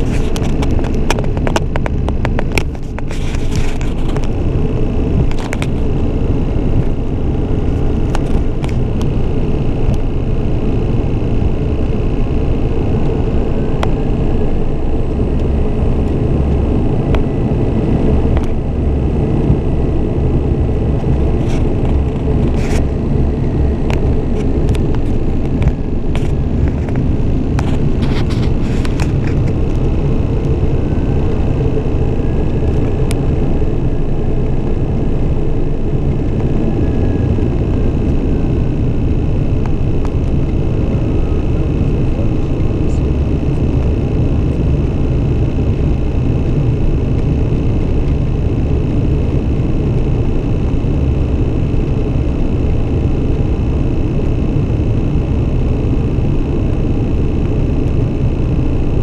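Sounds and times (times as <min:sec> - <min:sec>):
faint high whine: 0:00.0 - 0:59.0
turboprop plane rumbling: 0:00.0 - 0:59.0.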